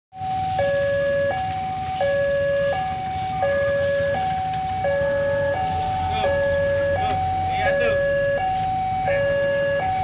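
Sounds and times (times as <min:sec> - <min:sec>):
level crossing alarm tones: 0:00.2 - 0:10.0.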